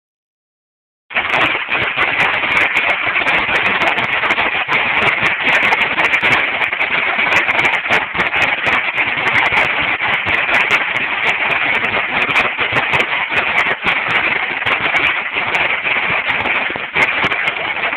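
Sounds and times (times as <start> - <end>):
firecrackers popping rapidly: 1.1 - 17.9.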